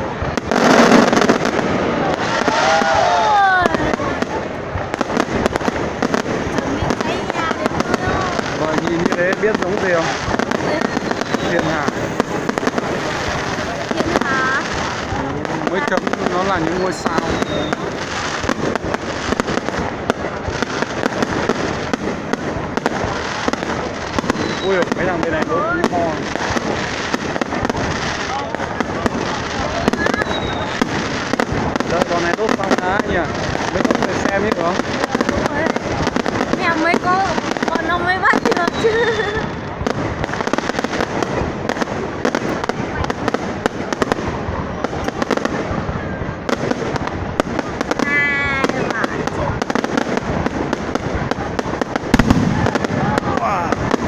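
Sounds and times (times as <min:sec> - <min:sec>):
fireworks cracking and popping: 0:00.0 - 0:54.0
fireworks rumble: 0:00.0 - 0:54.0.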